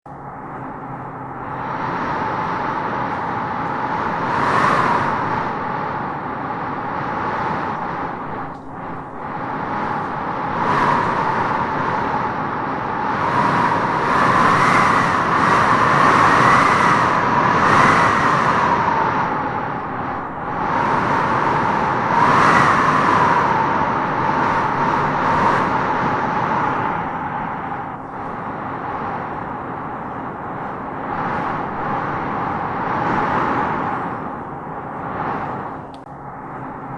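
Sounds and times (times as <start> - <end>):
wind howling in gusts: 0.1 - 36.9.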